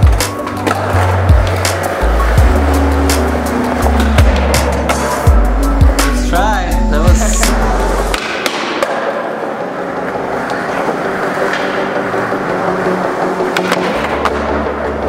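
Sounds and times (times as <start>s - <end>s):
skateboard clacking and landing: 0.0s - 6.0s, 8.1s - 15.0s.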